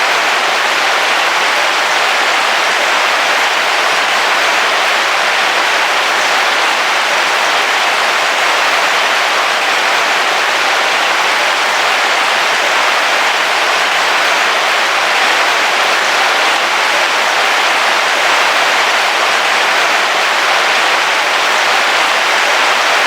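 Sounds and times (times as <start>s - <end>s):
heavy rain on a vehicle roof: 0.0s - 23.0s.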